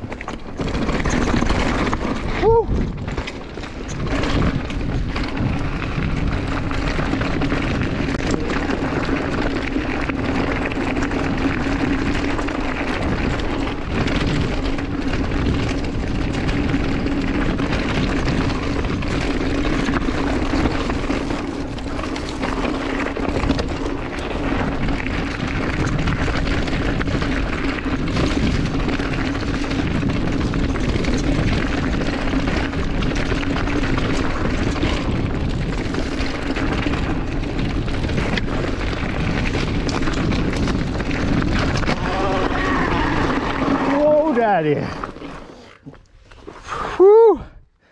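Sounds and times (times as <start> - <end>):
tyres rolling over dirt: 0.0 - 47.6
bike rattling: 0.0 - 47.9
wind rumble on microphone: 0.0 - 47.9.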